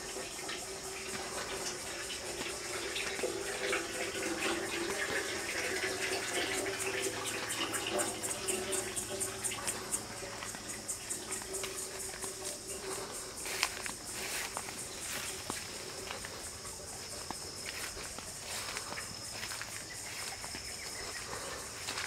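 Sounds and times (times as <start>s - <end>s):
constant hiss: 0.0s - 22.0s
insects buzzing: 0.0s - 22.0s
insects chirping: 0.0s - 22.0s.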